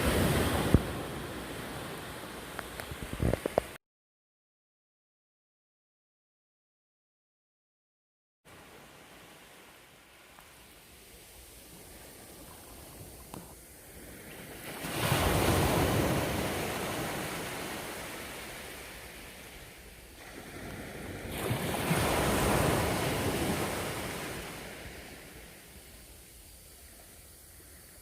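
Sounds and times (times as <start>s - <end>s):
sea waves breaking on shore: 0.0s - 3.8s, 8.5s - 28.0s.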